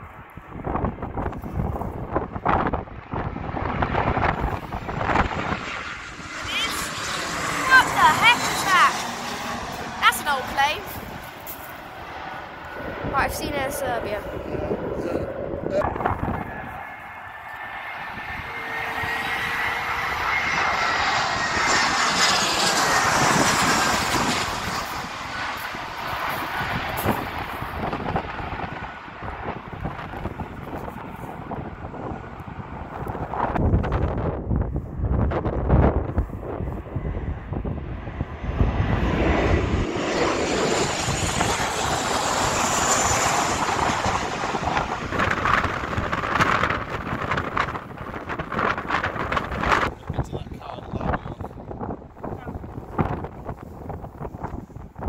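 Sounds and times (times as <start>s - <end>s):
high engine whine: 0.0s - 55.0s
jet airliner passing overhead: 0.0s - 55.0s.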